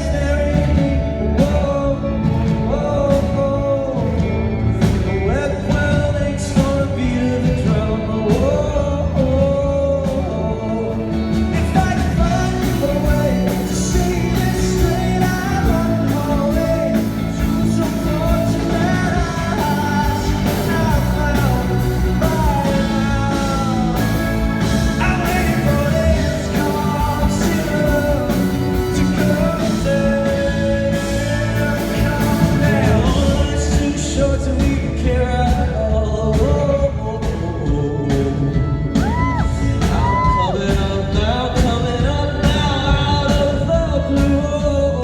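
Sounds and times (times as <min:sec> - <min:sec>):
man singing rock ballad: 0:00.0 - 0:45.0
instrumental accompaniment: 0:00.1 - 0:44.6.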